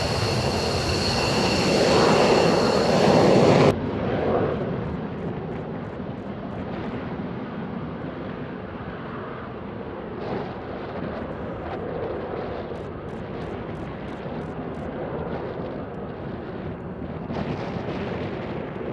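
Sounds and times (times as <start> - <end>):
jet aircraft rumble: 0.0 - 18.9.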